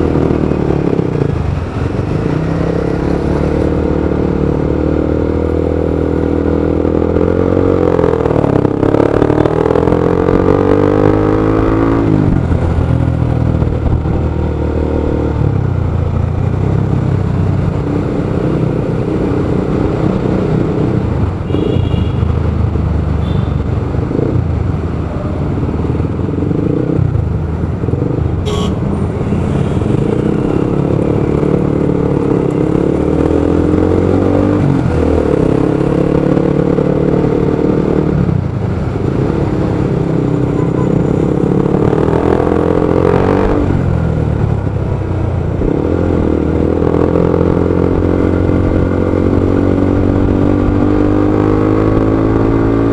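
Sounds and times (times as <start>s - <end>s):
motorcycle engine revving: 0.0s - 52.9s
road and traffic noise: 0.0s - 52.9s.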